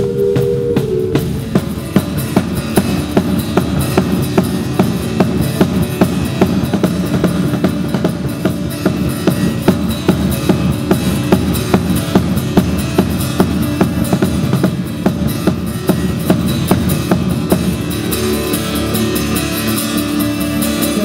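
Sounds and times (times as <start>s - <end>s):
music with fast drum beat: 0.0s - 21.0s.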